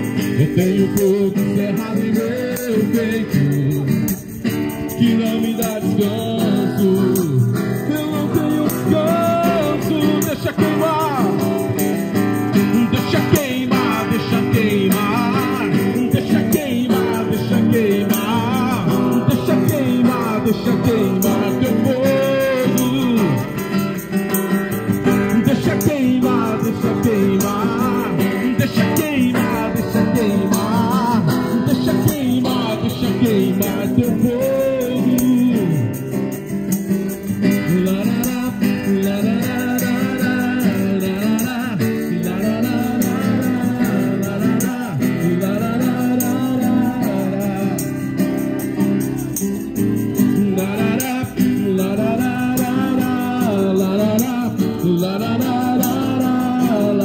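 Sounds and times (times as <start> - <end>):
man singing into a microphone: 0.0 - 36.5, 37.1 - 57.0
strummed acoustic guitar: 0.0 - 57.0.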